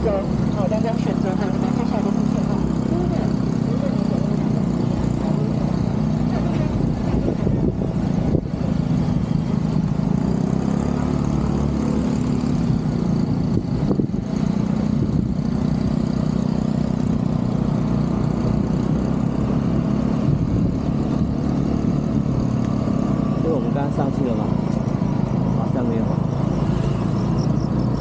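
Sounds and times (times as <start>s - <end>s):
motor scooter engine running: 0.0s - 28.0s.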